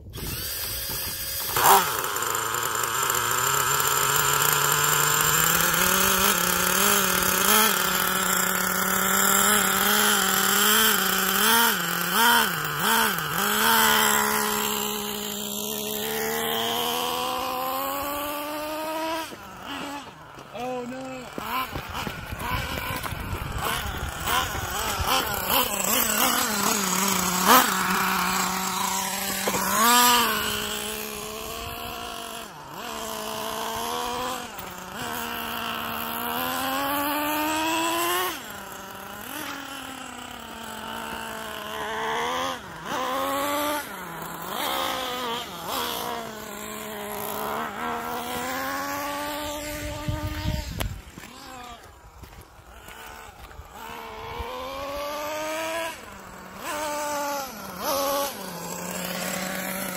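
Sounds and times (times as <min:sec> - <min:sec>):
small nitro engine revving: 0:00.0 - 0:59.9.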